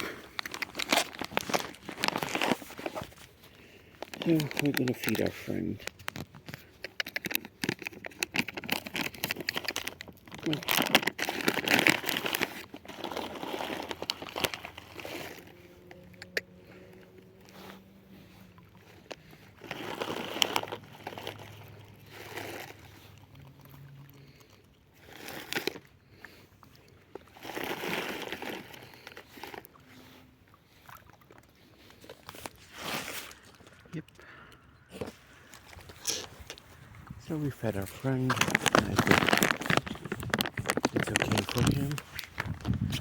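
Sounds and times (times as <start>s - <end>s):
food bag crinkling: 0.0s - 16.0s, 17.6s - 26.4s, 27.1s - 30.8s, 35.0s - 43.0s.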